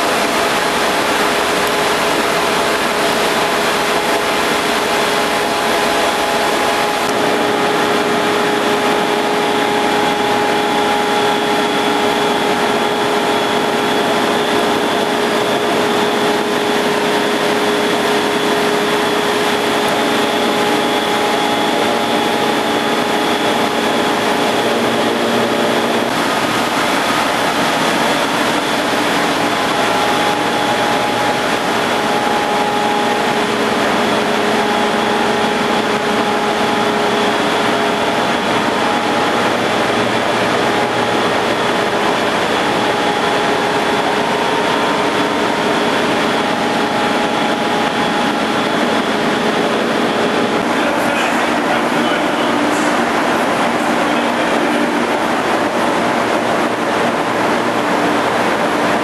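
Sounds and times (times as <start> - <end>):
constant whining tones: 0.0 - 59.0
engine-room machinery drone: 0.0 - 59.0.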